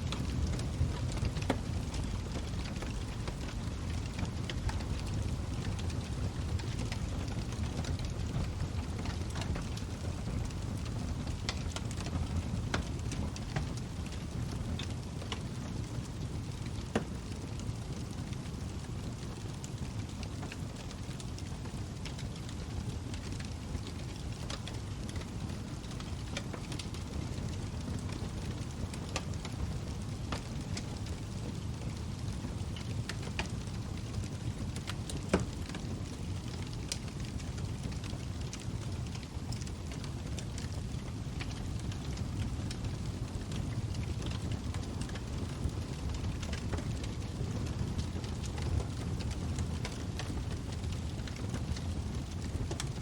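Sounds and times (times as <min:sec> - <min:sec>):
log fire popping and snapping: 0:00.0 - 0:53.0
low rumble of burning: 0:00.0 - 0:53.0.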